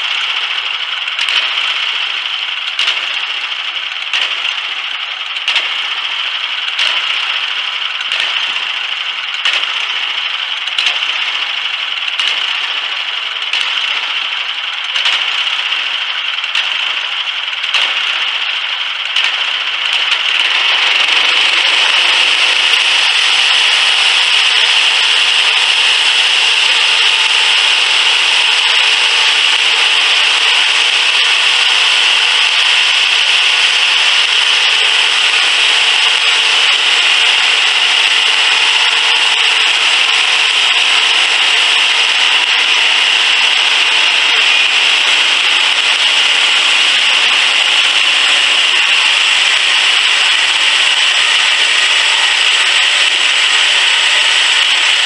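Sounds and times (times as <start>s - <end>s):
bandsaw blade cutting wood: 0.0s - 55.0s
small engine running: 0.0s - 55.0s.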